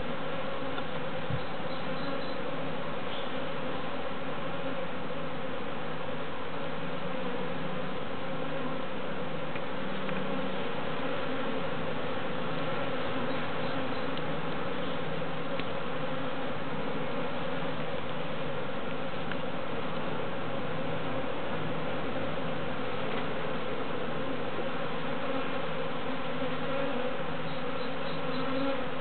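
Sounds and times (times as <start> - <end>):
bee swarm buzzing: 0.0 - 29.0.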